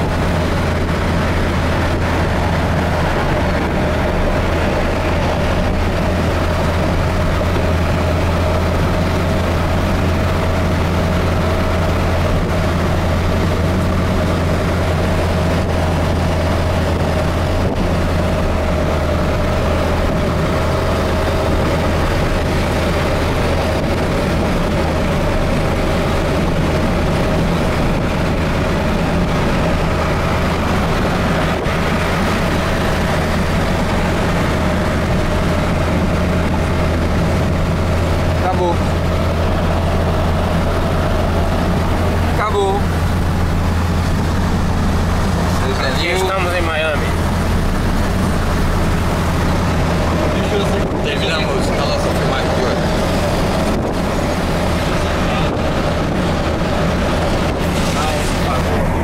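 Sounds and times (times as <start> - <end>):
truck engine and tyres droning: 0.0 - 59.0.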